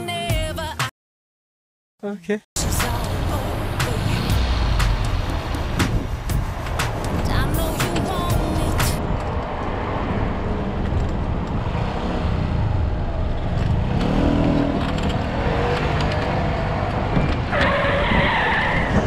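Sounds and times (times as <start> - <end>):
low rumble of traffic: 2.6 - 19.0.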